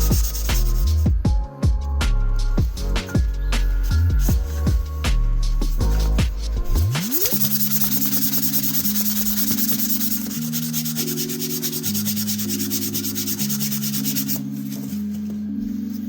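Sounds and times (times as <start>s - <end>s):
sandpaper rubbing knife blade: 0.0s - 1.1s, 3.0s - 15.8s
background music of steady chords: 0.0s - 16.0s.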